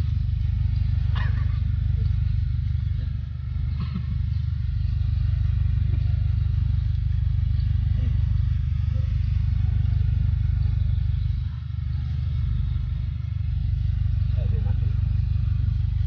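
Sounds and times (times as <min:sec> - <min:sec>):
low pulsing rumble: 0:00.0 - 0:16.0.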